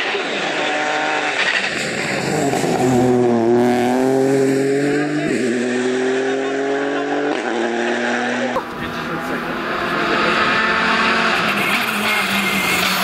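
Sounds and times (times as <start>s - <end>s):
rally car engine: 0.0s - 13.0s.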